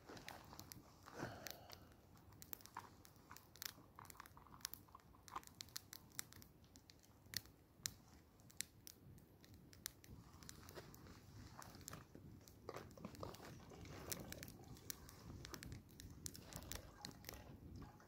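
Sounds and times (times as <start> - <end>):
burning logs popping: 0.0 - 18.0
campfire crackling: 0.0 - 18.0.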